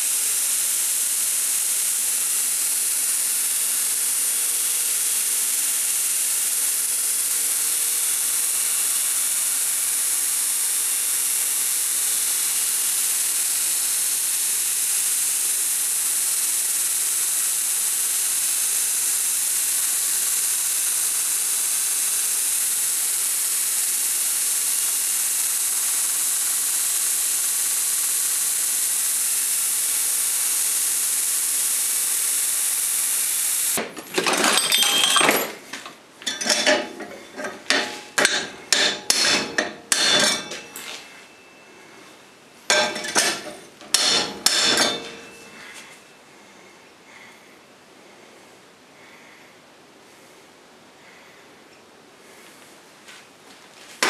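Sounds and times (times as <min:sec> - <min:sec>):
belt grinder grinding steel: 0:00.0 - 0:46.0.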